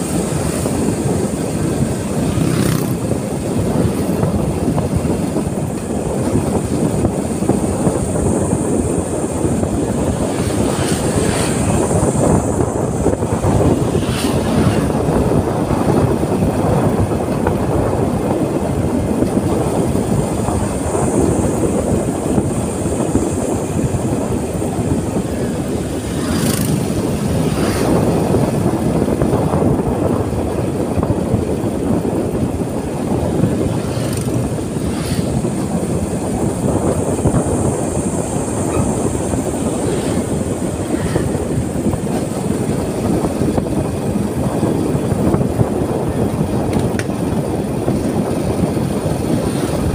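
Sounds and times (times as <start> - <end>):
road rumble: 0.0 - 49.9
wind rush on microphone: 0.0 - 49.9.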